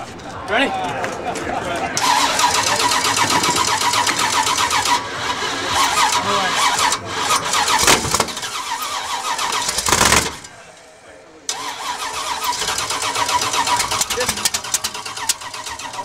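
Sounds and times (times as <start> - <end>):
short loud engine burst: 2.0 - 10.5, 11.5 - 16.0
engine cranking with starter whine: 2.0 - 10.7, 11.5 - 16.0.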